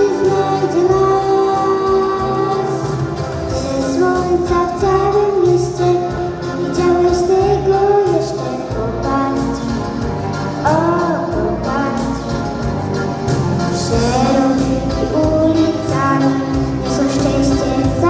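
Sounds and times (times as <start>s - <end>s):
girl singing into microphone: 0.0s - 10.0s, 10.6s - 12.4s, 13.8s - 18.0s
instrumental backing track: 0.0s - 18.0s.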